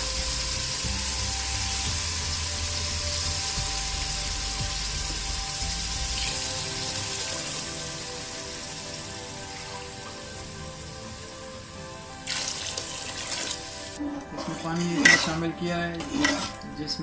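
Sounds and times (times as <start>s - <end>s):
pot hissing and sizzling: 0.0s - 17.0s.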